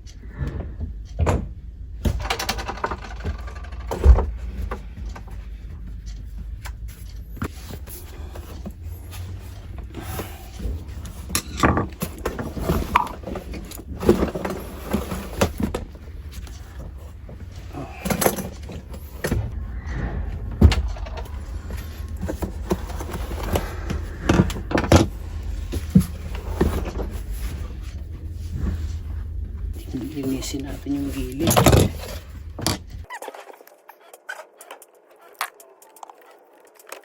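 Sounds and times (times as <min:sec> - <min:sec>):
steady low hum: 0:00.0 - 0:33.1.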